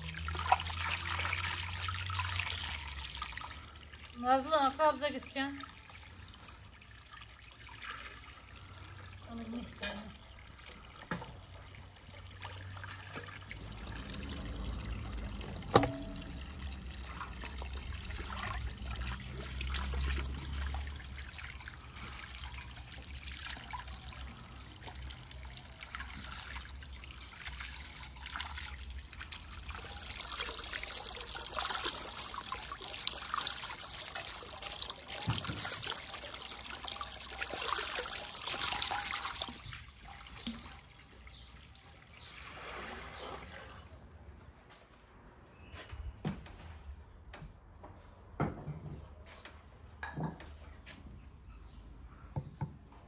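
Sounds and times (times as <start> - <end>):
water stream pouring into basin: 0.0 - 43.7
water splashing in a basin: 0.0 - 44.2.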